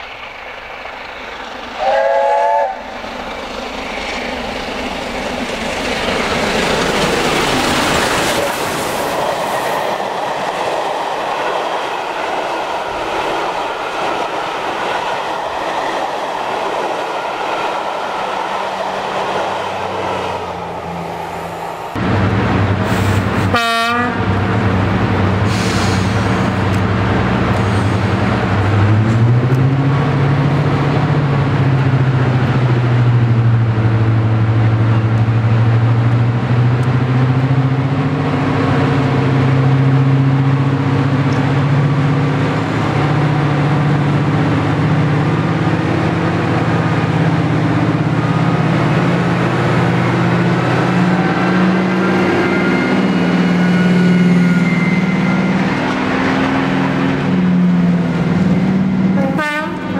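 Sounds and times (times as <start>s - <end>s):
diesel locomotive engines working hard: 0.0s - 59.9s.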